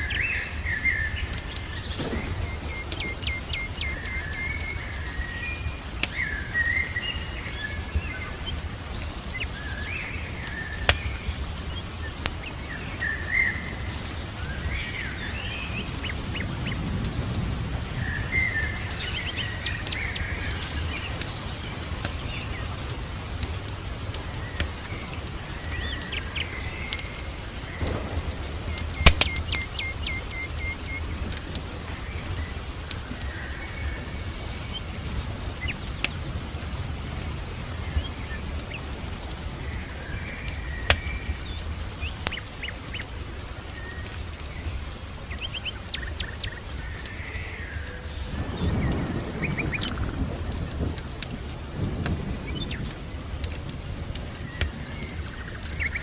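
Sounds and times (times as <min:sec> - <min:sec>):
birds chirping and calling: 0:00.0 - 0:56.0
rain hiss: 0:00.0 - 0:56.0
wood fire crackling: 0:00.0 - 0:56.0.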